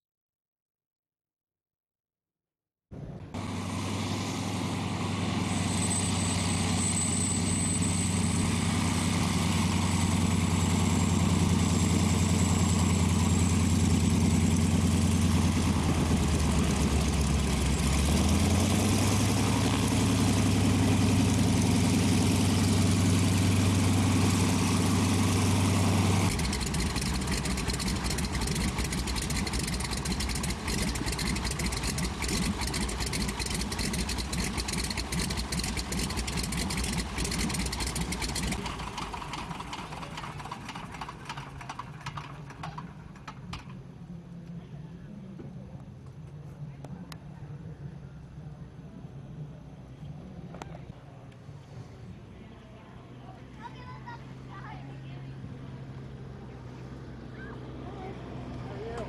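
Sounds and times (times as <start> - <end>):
biplane engine taxiing: 3.0 - 53.2
aircraft engine idling unevenly: 3.0 - 55.6.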